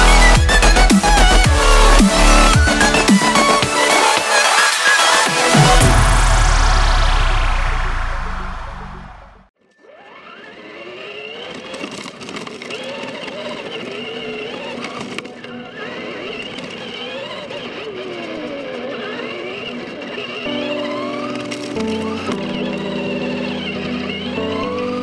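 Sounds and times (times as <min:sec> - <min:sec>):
toy truck motor whining: 0:00.0 - 0:05.3, 0:09.6 - 0:25.0.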